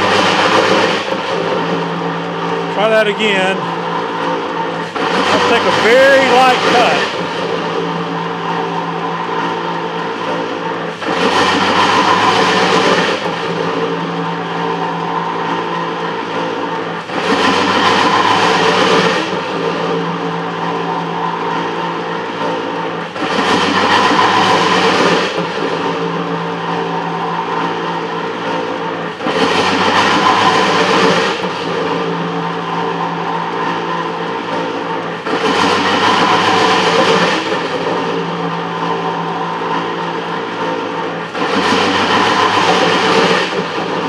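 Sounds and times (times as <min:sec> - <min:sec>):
metal planer machine drone: 0:00.0 - 0:44.0.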